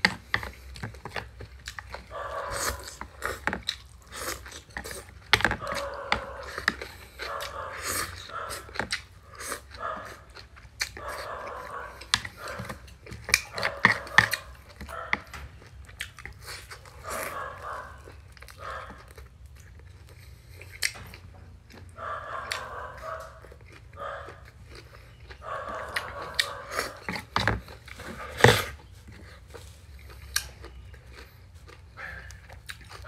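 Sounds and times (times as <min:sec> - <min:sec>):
chewing with wet mouth noises: 0:00.0 - 0:33.0.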